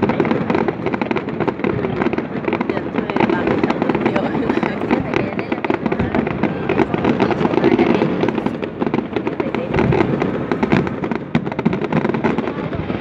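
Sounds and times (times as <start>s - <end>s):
fireworks crackling and bursting: 0.0s - 13.0s.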